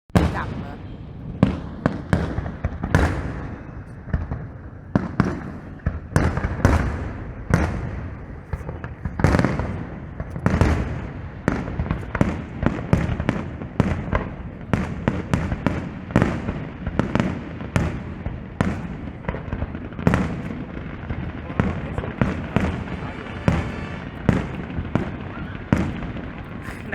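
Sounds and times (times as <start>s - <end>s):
fireworks bangs and booms: 0.1s - 26.9s.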